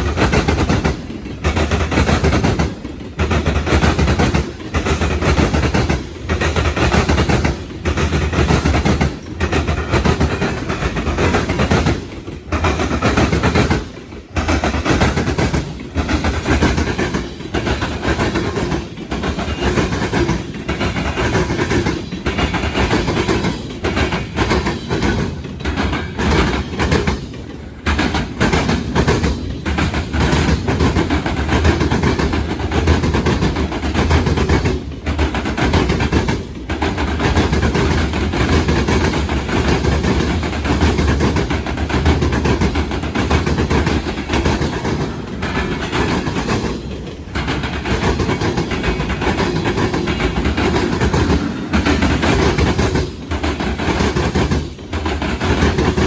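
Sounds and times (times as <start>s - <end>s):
train wheels clattering: 0.0s - 56.0s.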